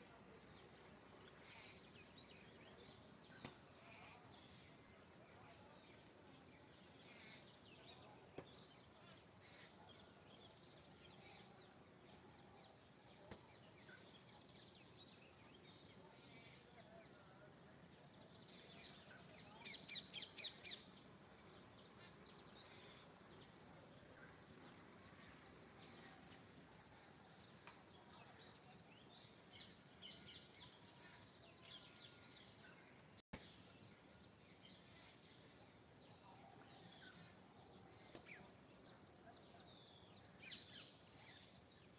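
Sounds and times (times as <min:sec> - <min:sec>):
songbirds chirping: 0:00.0 - 0:41.9.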